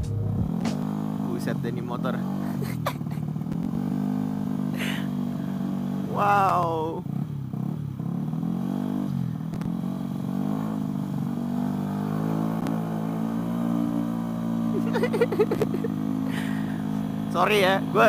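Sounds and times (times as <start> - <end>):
scooter engine revving: 0.0 - 18.0.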